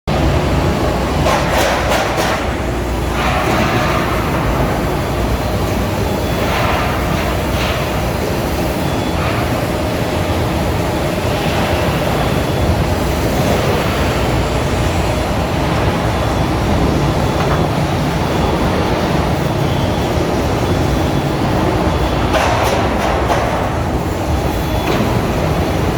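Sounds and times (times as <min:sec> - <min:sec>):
heavy truck engine and rumble: 0:00.1 - 0:25.9.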